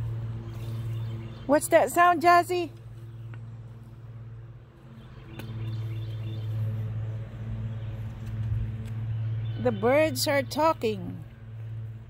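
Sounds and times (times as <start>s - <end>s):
birds calling: 0.2s - 4.0s, 4.7s - 10.9s.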